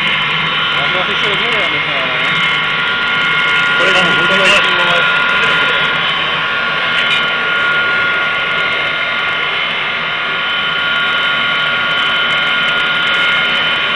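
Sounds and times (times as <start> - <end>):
high whine: 0.0 - 13.9
stove rushing roar: 0.0 - 13.9.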